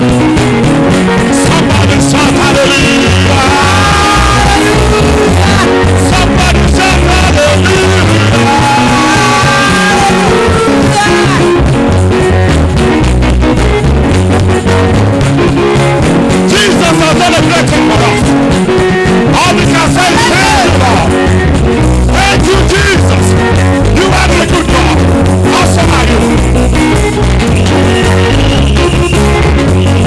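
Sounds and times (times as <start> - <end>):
band music with singing: 0.0 - 30.0
strong bass beat: 0.0 - 30.0.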